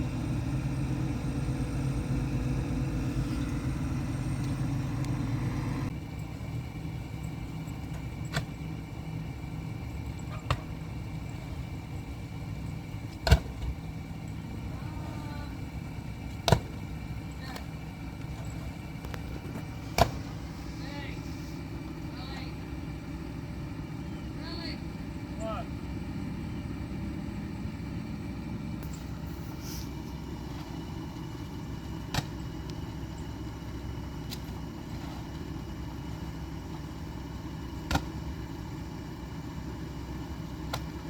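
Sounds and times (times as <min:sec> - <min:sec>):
engine running: 0:00.0 - 0:41.0
quiet steady hum: 0:00.0 - 0:41.0.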